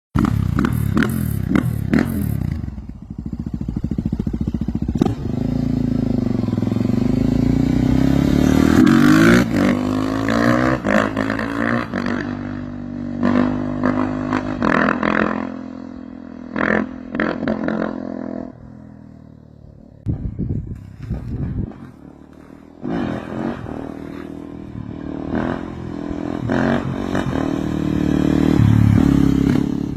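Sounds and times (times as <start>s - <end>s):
motorcycle engine revving: 0.2s - 29.9s.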